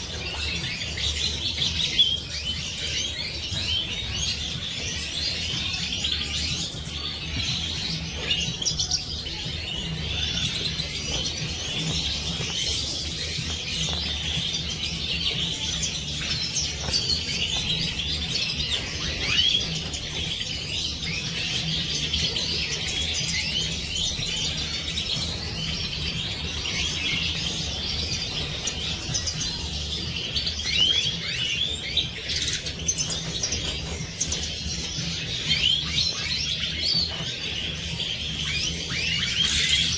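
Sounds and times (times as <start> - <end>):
flock of finches twittering: 0.0 - 39.9.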